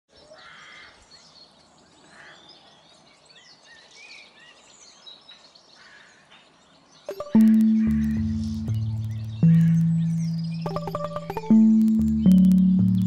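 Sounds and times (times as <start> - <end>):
faint birdsong chirps: 0.1 - 13.0.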